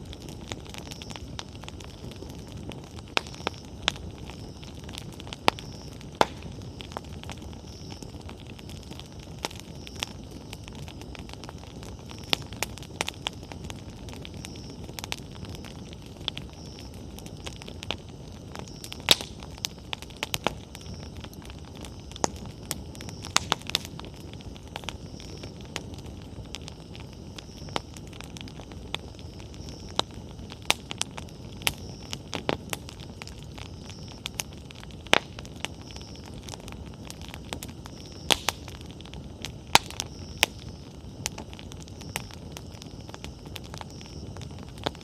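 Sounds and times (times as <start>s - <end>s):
bonfire rustling: 0.0s - 45.0s
fire crackles and pops: 0.0s - 45.0s
low rush of flames: 0.0s - 45.0s.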